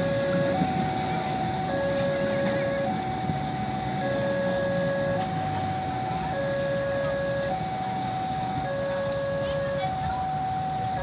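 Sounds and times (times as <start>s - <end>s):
two-note electronic warning tone: 0.0s - 3.2s, 4.0s - 5.6s, 6.2s - 7.8s, 8.5s - 11.0s.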